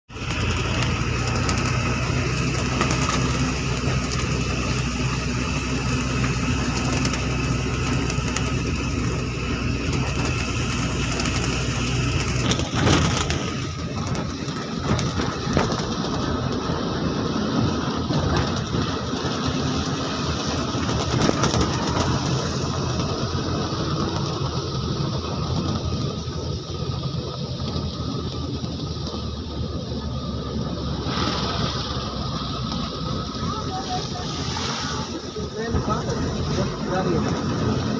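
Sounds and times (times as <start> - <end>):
vehicle engine running: 0.1 - 37.9.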